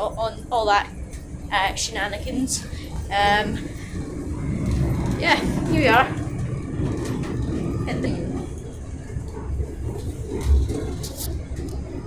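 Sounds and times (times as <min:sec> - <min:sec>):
electric train rumble inside carriage: 0:00.0 - 0:12.0.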